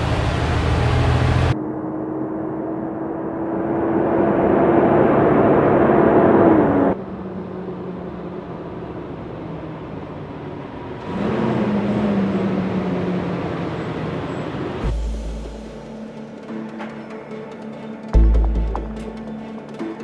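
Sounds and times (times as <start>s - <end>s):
truck diesel engine and tyres droning: 0.0s - 20.0s.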